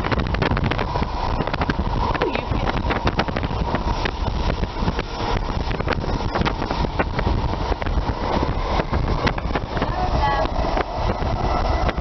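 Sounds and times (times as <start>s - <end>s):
train wheels rumbling on rails: 0.0s - 12.0s
wind buffeting microphone: 0.0s - 12.0s.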